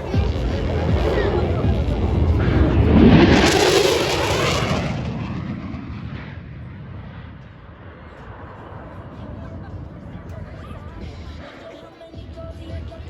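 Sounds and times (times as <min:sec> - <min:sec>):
fighter jet flying past: 0:00.0 - 0:11.4.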